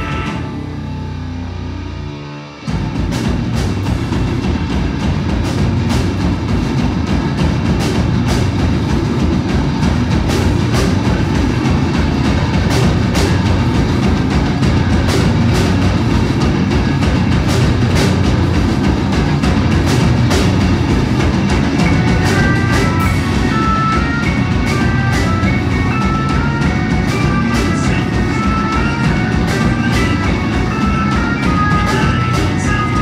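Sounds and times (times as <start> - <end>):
high guitar notes: 0.0 - 33.0
rock band playing live: 0.0 - 33.0.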